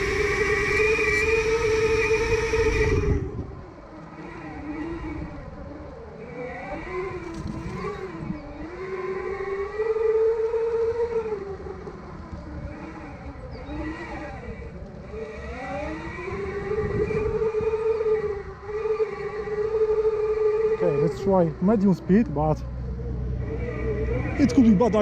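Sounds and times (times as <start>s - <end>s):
electric skateboard motors whining: 0.0s - 25.0s.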